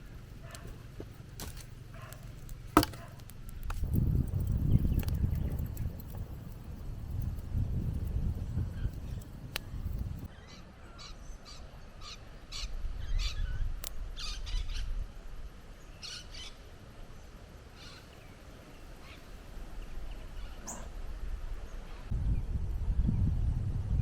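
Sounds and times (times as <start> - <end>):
birds chirping: 0.0 - 15.0, 15.7 - 22.1.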